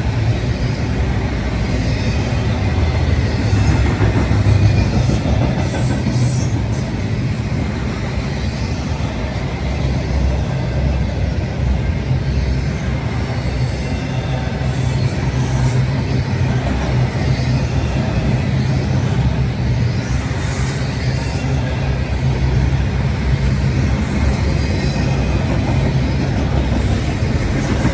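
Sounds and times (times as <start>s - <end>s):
freight train rumbling past: 0.0s - 27.9s.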